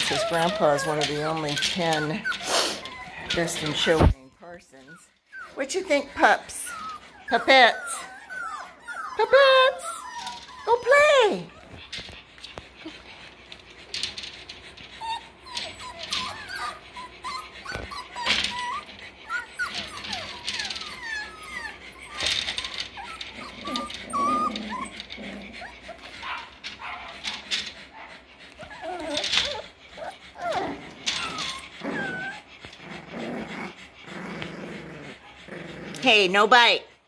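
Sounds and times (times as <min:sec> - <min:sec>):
puppies yipping and whimpering: 0:00.0 - 0:36.2.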